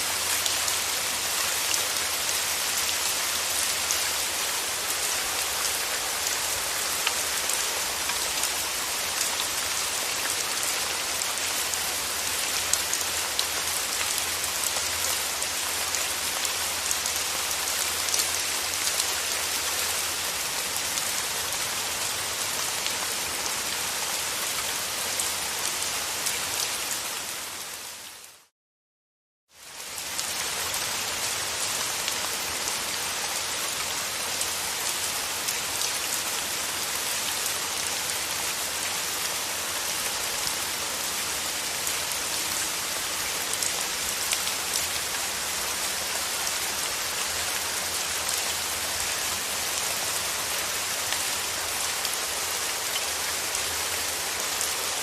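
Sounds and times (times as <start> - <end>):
heavy rain falling: 0.0 - 28.5, 29.6 - 55.0.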